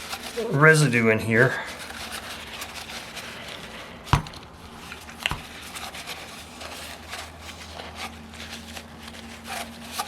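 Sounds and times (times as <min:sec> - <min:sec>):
gloved hands rustling: 0:00.0 - 0:10.0.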